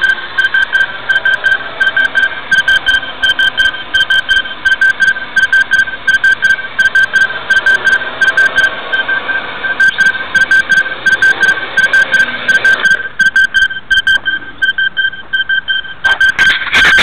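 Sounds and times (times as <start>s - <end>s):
short high-pitched beeps: 0.0s - 17.0s.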